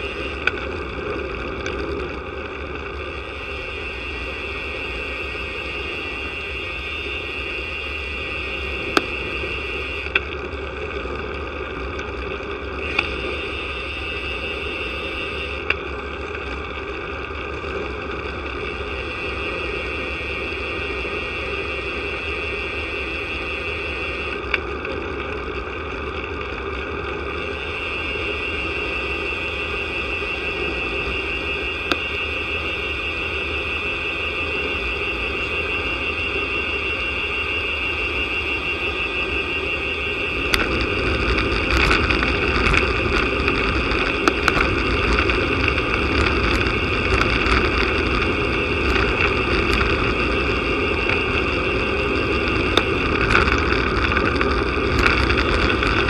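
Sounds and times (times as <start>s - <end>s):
rushing wind: 0.0s - 56.0s
tyre road noise: 0.0s - 56.0s.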